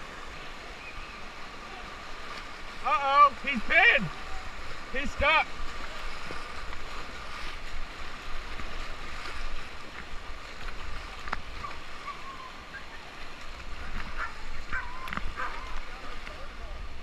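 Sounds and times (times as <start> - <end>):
paddle strokes in water: 0.0 - 17.0
whitewater rushing and splashing: 0.0 - 17.0.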